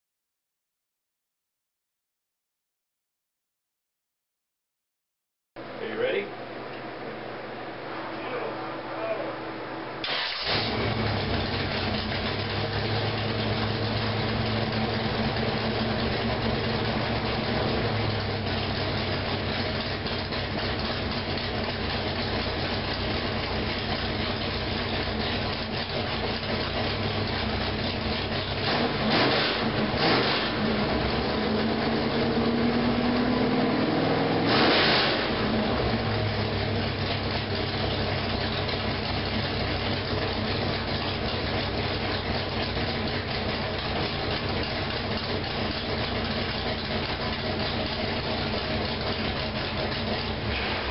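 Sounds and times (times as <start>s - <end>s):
engine idling and revving: 10.0s - 50.9s.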